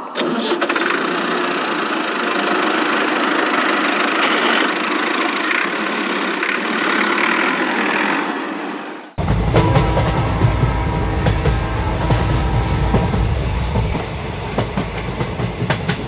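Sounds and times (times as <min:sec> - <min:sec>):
small tractor motor running: 0:00.1 - 0:16.0.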